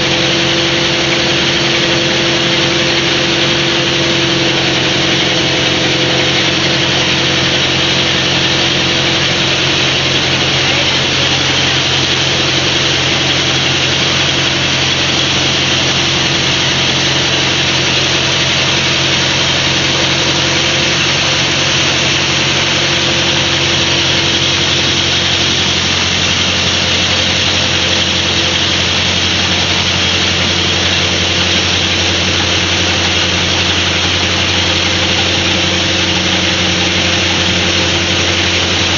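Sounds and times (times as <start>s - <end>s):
rice milling machine drone: 0.0s - 38.9s.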